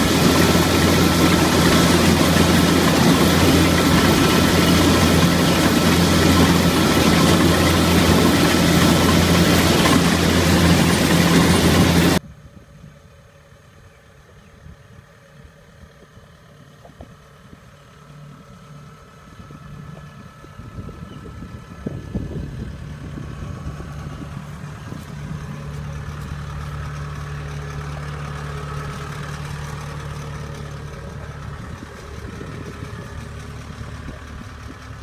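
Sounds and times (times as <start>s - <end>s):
combine harvester running: 0.0s - 35.0s
faint engine hum: 0.0s - 35.0s.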